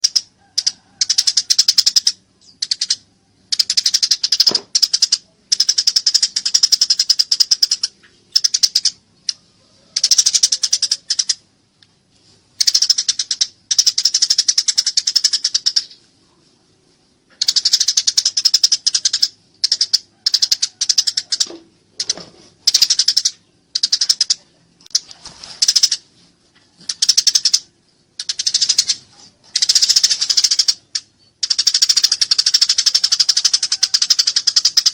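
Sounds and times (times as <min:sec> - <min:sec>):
sparrow chattering: 0:00.0 - 0:11.4, 0:12.6 - 0:16.1, 0:17.3 - 0:26.1, 0:26.8 - 0:34.9.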